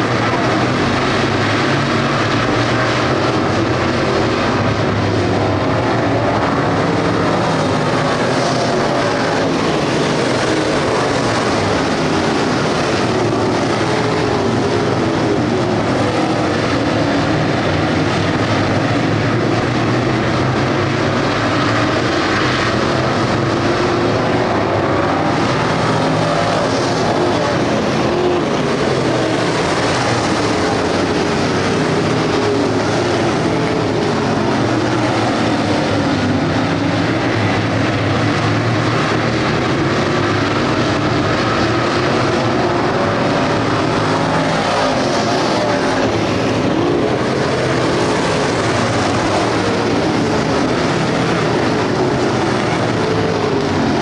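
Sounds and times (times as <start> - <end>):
race car engines roaring: 0.0 - 54.0.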